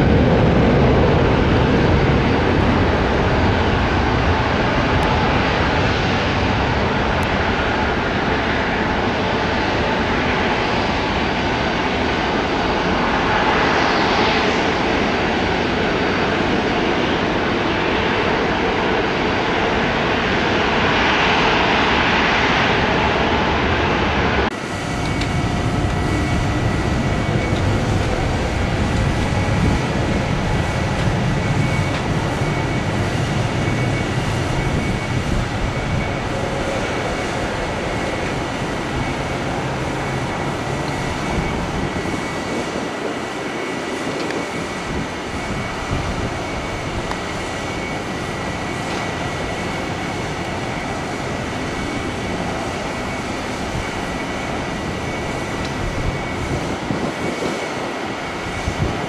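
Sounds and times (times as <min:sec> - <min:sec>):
jet engine high whine: 0:00.0 - 0:59.0
jet engine low rumble: 0:00.0 - 0:59.0
jet engines roaring on takeoff: 0:00.0 - 0:59.0.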